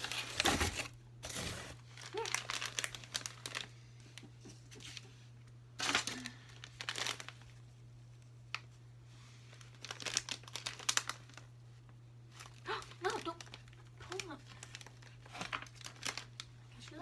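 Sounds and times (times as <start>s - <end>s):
treat bag crinkling: 0.0s - 4.2s, 5.8s - 8.7s, 9.5s - 17.0s.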